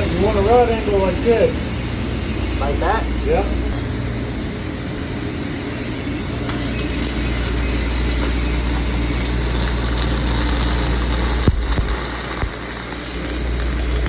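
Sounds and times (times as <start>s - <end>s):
welding arc crackling hiss: 0.0s - 3.8s, 4.5s - 14.0s.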